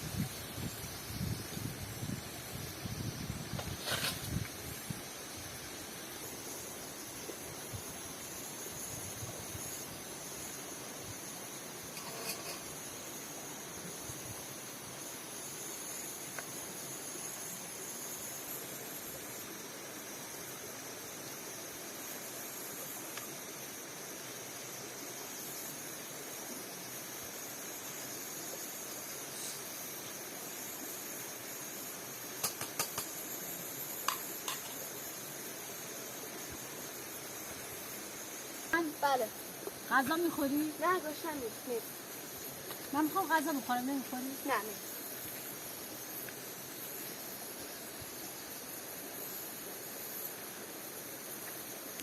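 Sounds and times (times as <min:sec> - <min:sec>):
high-pitched insect chorus: 0:00.0 - 0:52.0
steady hiss: 0:00.0 - 0:52.0.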